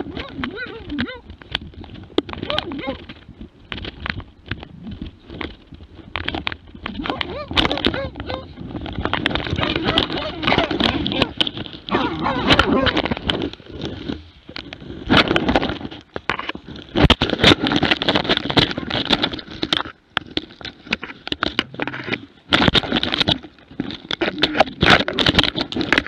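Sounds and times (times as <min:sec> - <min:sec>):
camera bumping and scraping: 0:00.0 - 0:26.0.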